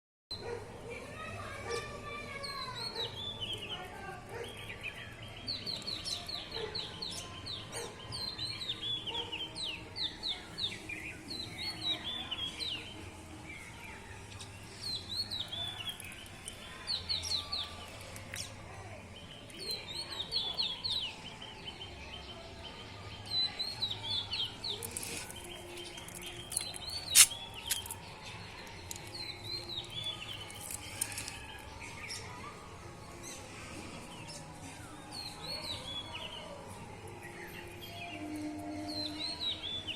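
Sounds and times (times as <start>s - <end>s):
small birds chirping: 0.3s - 38.1s.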